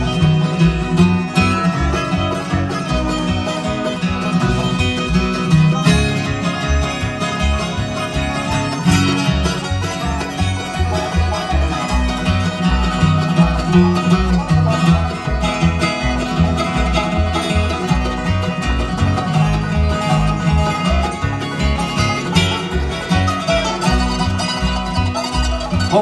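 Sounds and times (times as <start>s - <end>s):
banjo picking: 0.0s - 26.0s
guitar: 0.0s - 26.0s.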